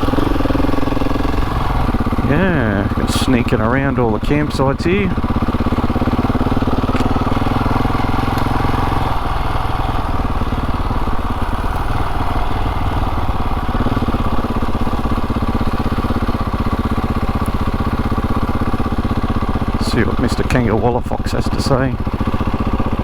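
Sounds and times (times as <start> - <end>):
motorcycle engine at low speed: 0.0 - 23.0.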